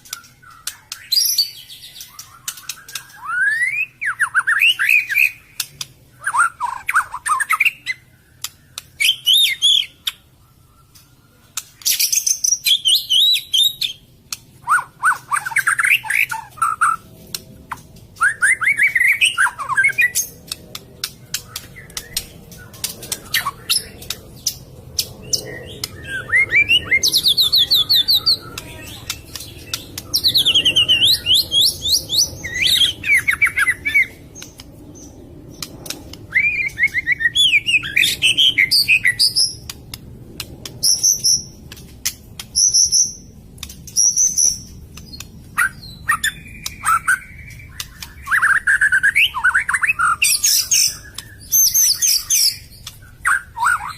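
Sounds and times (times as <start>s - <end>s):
sharp bird clicks: 0.0s - 10.3s, 10.9s - 53.9s
songbird trills and whistles: 0.0s - 17.0s, 18.2s - 39.8s, 42.4s - 53.9s.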